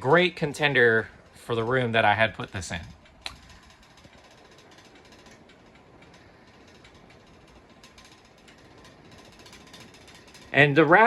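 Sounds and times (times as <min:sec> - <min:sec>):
ceiling fan running: 0:00.0 - 0:11.0
light fixture rattling: 0:00.0 - 0:11.0.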